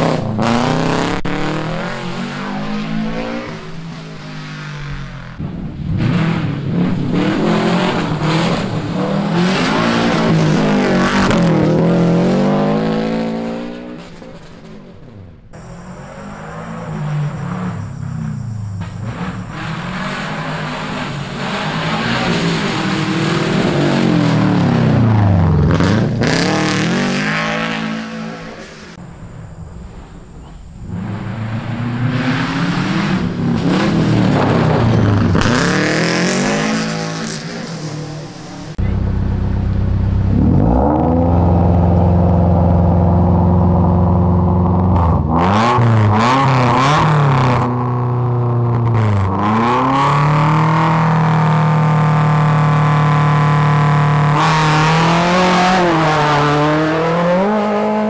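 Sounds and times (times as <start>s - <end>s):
rally car engine idling and revving: 0.0s - 58.0s.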